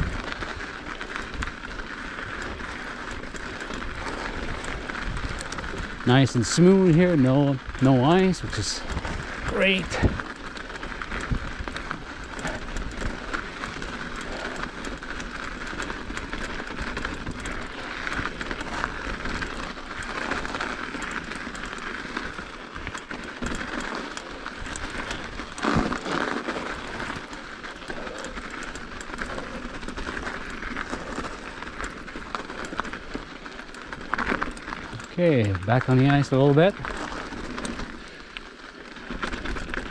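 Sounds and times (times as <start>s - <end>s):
bike rattling clicks: 0.0s - 39.9s
bike tyre noise: 0.0s - 39.9s.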